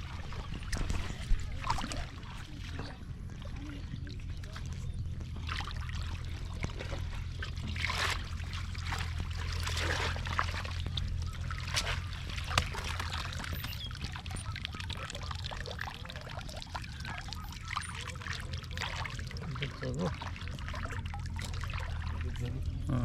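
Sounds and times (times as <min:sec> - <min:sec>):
steady low rumble: 0:00.0 - 0:23.0
water splashing and trickling: 0:00.0 - 0:23.0.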